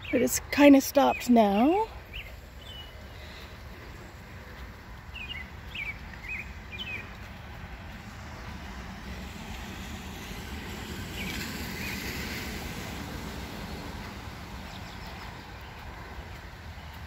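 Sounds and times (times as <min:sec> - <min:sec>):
tyres hissing on wet road: 0:02.1 - 0:16.8.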